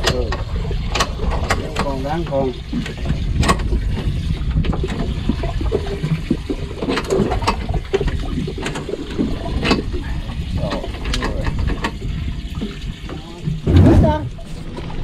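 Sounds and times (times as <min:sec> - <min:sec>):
low rumble: 0:00.0 - 0:15.0
water slapping against boat hull: 0:00.0 - 0:15.0.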